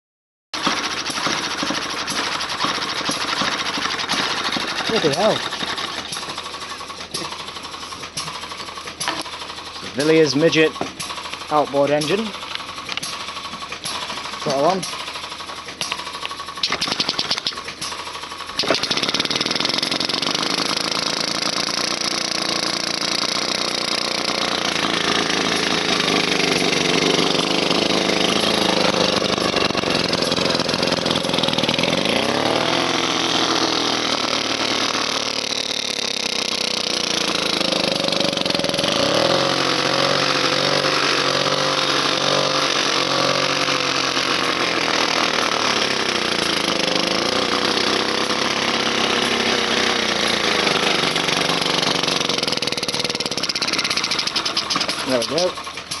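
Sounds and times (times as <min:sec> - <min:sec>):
two-stroke outboard engine running: 0:00.6 - 0:56.0.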